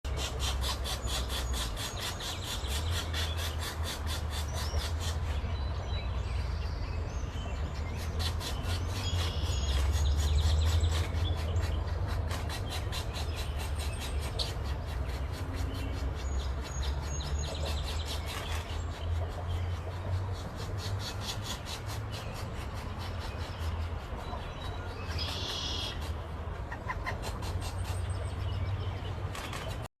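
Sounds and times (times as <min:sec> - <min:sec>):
nestlings rasping begging calls: 0:00.1 - 0:05.5, 0:07.7 - 0:28.8.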